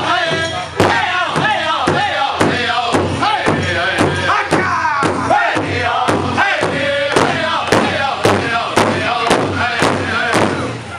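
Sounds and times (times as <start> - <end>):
group singing in chorus: 0.0 - 10.9
large drum steady beat: 0.0 - 10.9.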